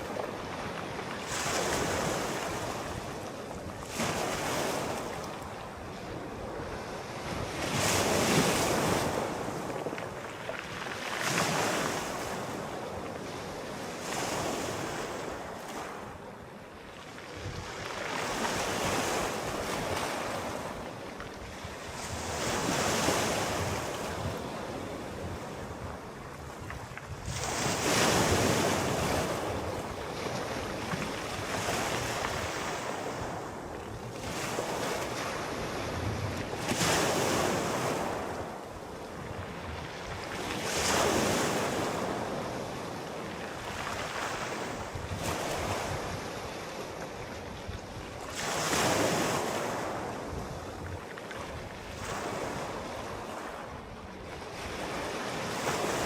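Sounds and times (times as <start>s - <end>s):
sea waves breaking on shore: 0.0s - 56.0s
wind: 0.0s - 56.0s.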